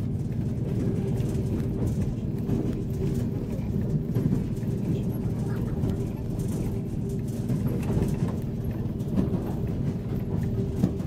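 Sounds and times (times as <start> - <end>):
light train clatter: 0.0 - 11.0
train rumbling: 0.0 - 11.0.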